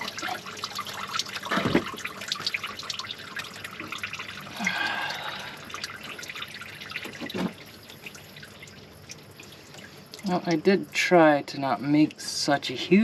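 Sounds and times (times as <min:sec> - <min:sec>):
coolant dripping and splattering: 0:00.0 - 0:13.0.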